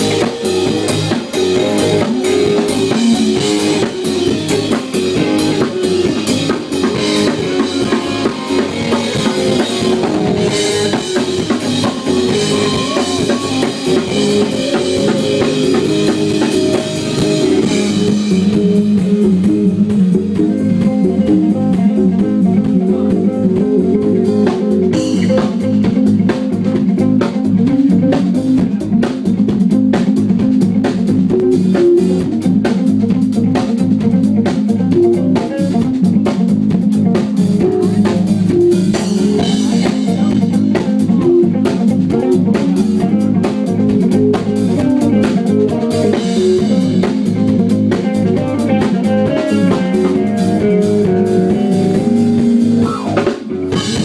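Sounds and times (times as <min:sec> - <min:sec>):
low guitar riff: 0:00.0 - 0:29.0, 0:31.2 - 0:54.0
drum kit: 0:00.0 - 0:54.0
electric guitar: 0:00.0 - 0:54.0.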